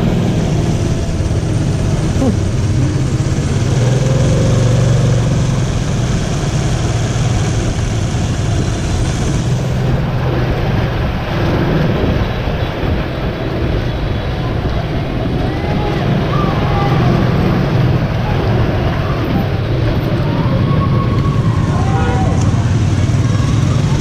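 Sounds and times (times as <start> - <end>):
road and wind noise: 0.0 - 24.0
scooter engine running: 0.0 - 24.0.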